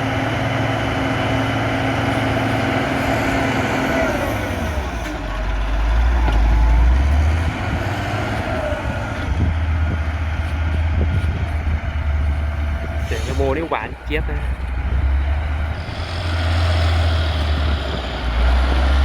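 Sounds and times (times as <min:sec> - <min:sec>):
grader diesel engine running: 0:00.0 - 0:19.0.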